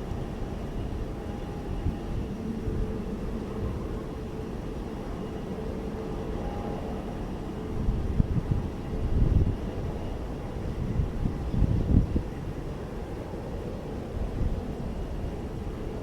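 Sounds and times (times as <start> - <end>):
faint jet whine: 0.0 - 16.0.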